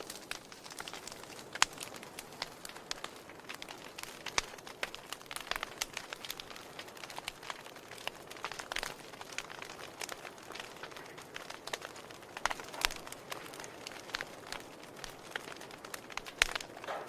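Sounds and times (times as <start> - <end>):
fire hissing: 0.0 - 17.0
wood fire crackling and popping: 0.0 - 17.0.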